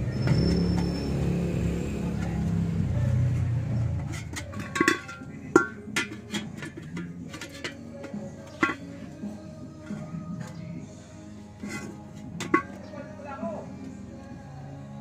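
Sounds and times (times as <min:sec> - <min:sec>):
low vehicle engine hum: 0:00.0 - 0:15.0.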